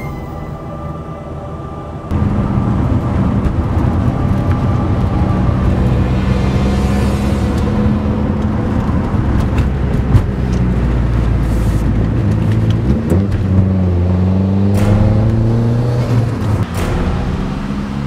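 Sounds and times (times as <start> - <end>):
car engine accelerating: 1.4 - 18.0.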